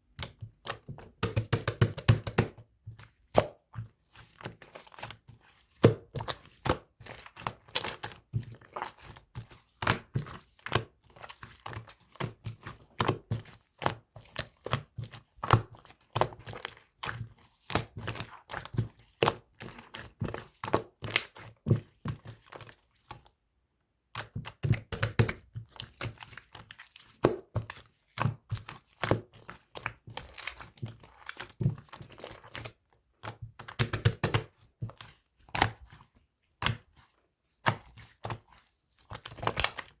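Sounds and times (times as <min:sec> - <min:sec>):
slime squished by hand: 0:00.1 - 0:23.2, 0:24.2 - 0:40.0.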